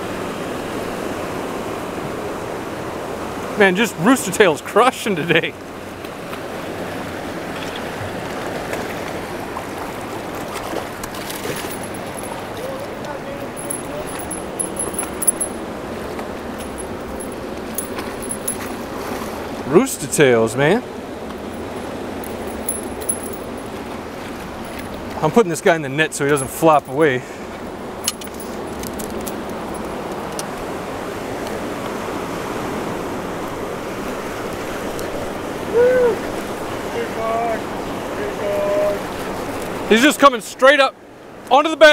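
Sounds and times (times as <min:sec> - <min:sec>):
river water rushing through rapids: 0:00.0 - 0:40.4.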